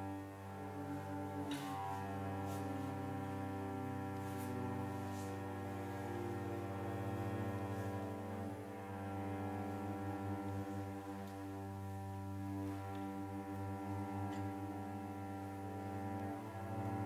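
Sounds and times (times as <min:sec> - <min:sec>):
cello bowing a low note: 0:00.0 - 0:17.0.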